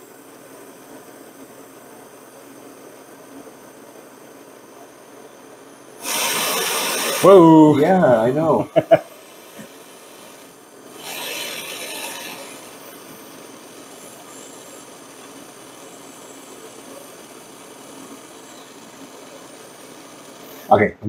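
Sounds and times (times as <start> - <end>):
gas torch flame hissing: 0.0 - 20.8.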